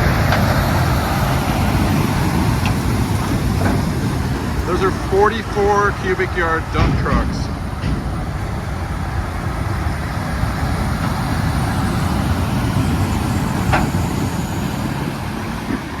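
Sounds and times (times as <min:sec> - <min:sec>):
dump trucks diesel rumble: 0:00.0 - 0:16.0.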